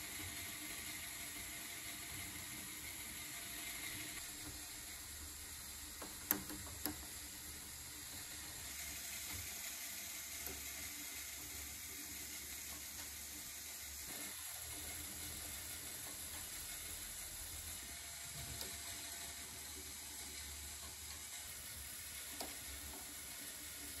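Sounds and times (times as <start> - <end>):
toy mechanism whirring: 0.0 - 24.0.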